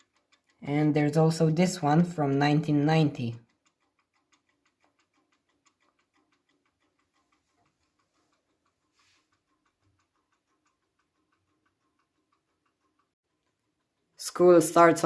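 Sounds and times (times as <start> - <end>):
wall clock ticking: 0.0 - 15.0.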